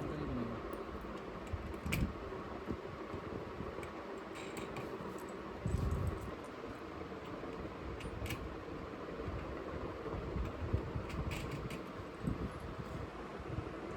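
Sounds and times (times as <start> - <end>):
steady background hum: 0.0 - 13.9.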